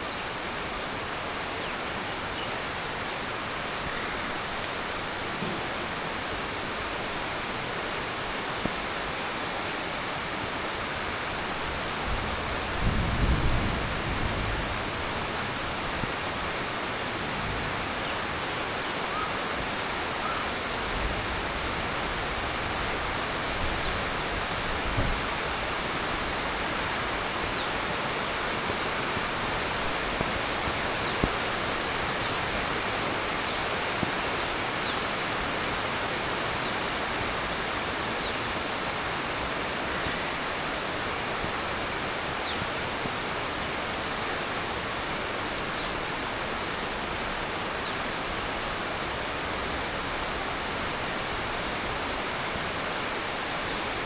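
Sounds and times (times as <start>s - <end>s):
heavy rain on leaves and roof: 0.0s - 54.0s.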